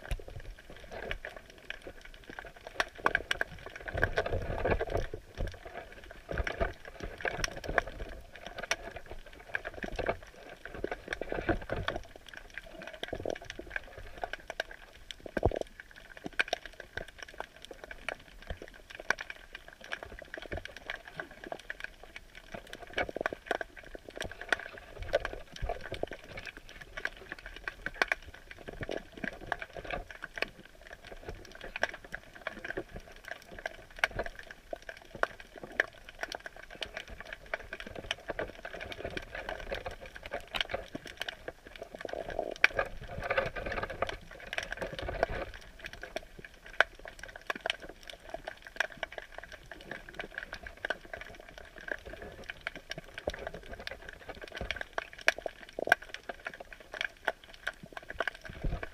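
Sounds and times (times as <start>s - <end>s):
underwater crackle of clicks: 0.0s - 58.9s.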